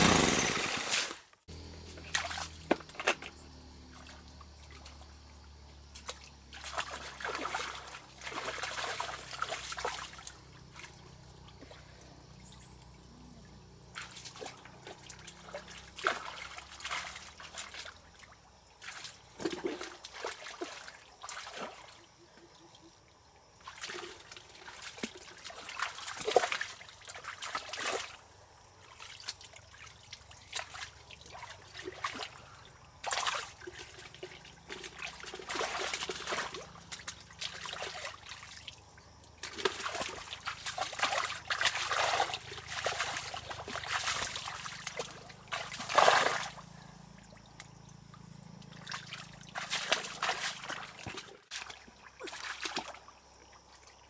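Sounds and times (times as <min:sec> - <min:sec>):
water trickling and splashing: 0:02.0 - 0:54.0.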